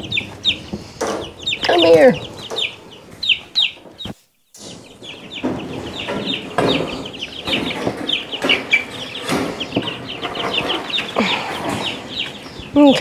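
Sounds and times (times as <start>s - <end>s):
chicks cheeping: 0.0s - 13.0s.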